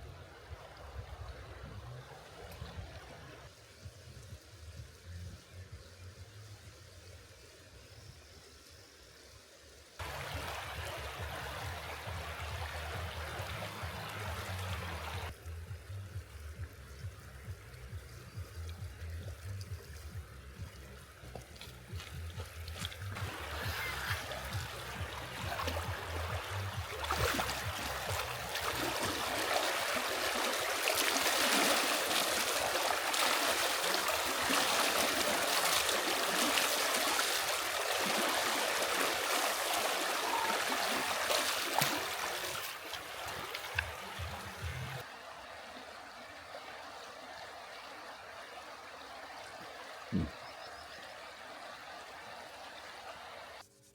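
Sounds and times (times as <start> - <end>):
river water flowing over stones: 6.8 - 53.6.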